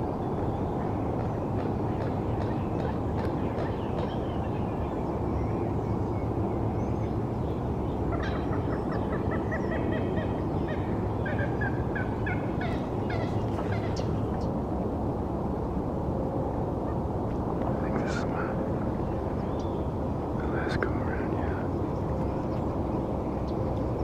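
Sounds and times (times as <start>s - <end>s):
city traffic rumble: 0.0s - 24.0s.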